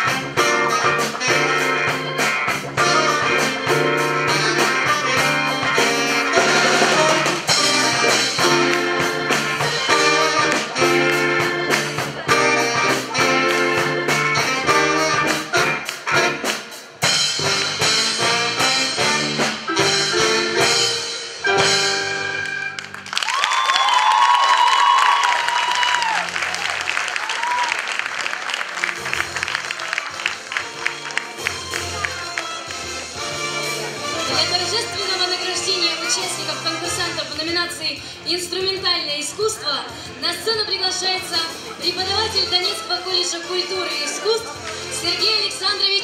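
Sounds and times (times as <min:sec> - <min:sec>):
live instrumental ensemble music: 0:00.0 - 0:46.0.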